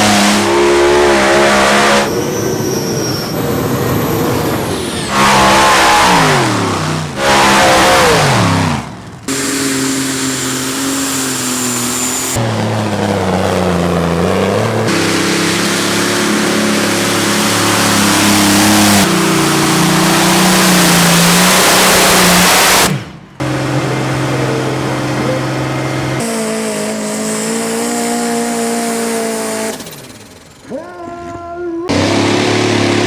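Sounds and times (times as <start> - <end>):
tractor engines at full power: 0.0 - 33.0.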